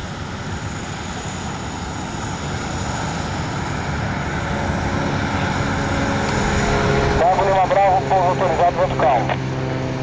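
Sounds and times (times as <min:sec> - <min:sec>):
propeller airplane climbing: 0:00.0 - 0:10.0.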